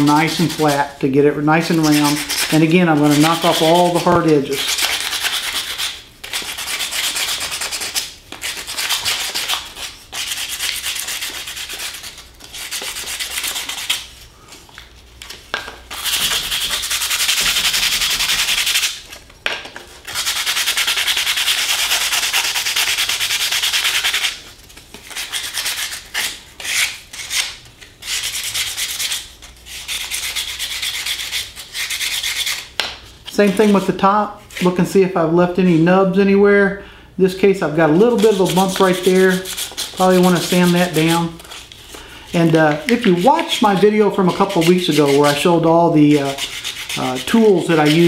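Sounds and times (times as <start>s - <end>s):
sandpaper rubbing on wood: 0.0s - 0.9s, 1.6s - 14.1s, 16.0s - 19.0s, 20.1s - 24.5s, 25.1s - 32.7s, 37.8s - 48.0s.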